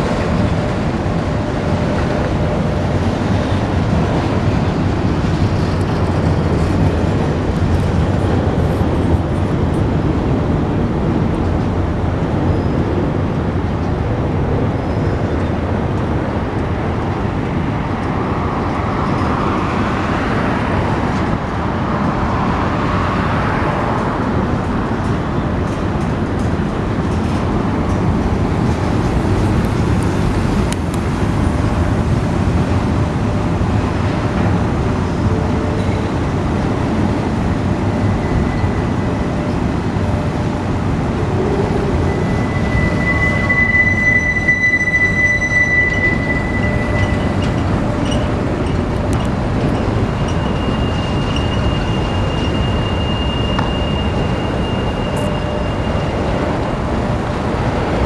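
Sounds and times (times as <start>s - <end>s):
freight train cars rumbling: 0.0s - 58.0s
steel wheels squealing on rails: 11.5s - 58.0s.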